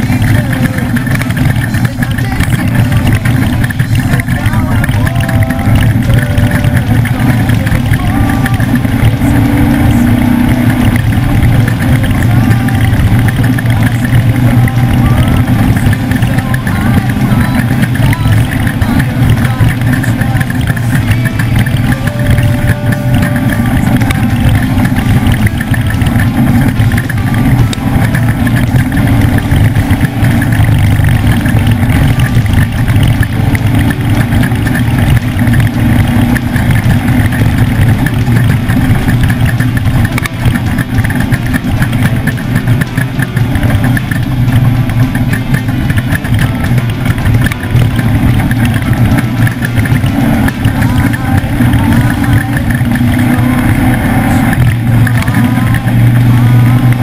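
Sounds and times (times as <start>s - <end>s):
truck engine droning: 0.0s - 57.0s.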